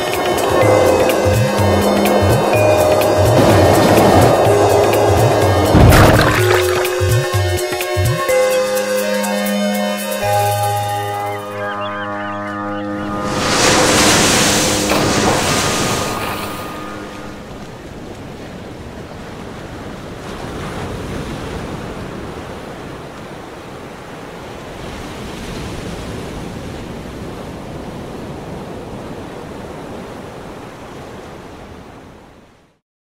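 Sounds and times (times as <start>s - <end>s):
sea surf washing: 0.0s - 32.2s.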